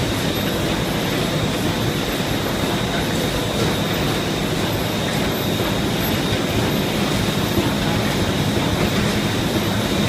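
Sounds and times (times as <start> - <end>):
laminating machine rollers din: 0.0 - 10.0.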